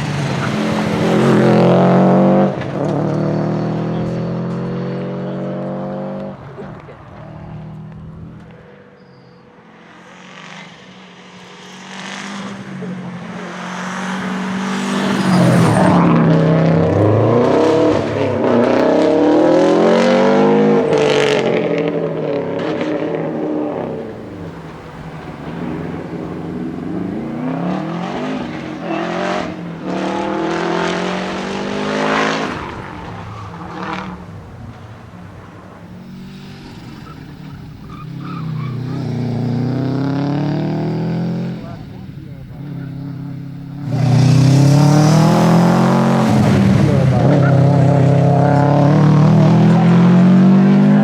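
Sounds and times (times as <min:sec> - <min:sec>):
rally car engine revving past: 0:00.0 - 0:08.4, 0:09.8 - 0:51.0.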